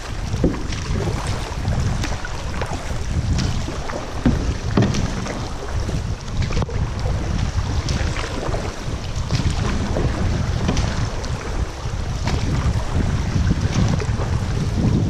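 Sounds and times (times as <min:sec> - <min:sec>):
paddles splashing in water: 0:00.0 - 0:15.0
wind noise on microphone: 0:00.0 - 0:15.0.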